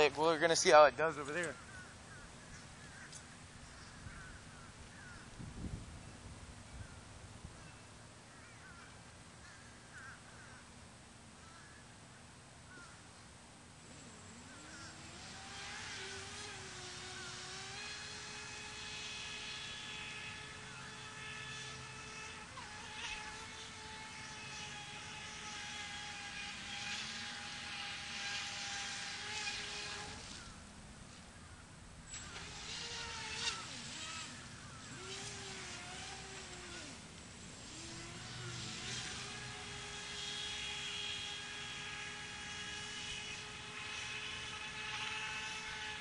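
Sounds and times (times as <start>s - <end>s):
speedboat motor whining: 0.0s - 5.7s, 13.8s - 46.0s.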